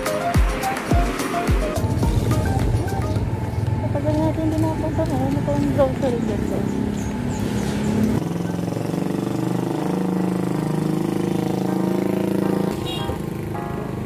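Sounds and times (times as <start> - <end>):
motorcycle engine running: 1.8 - 13.6.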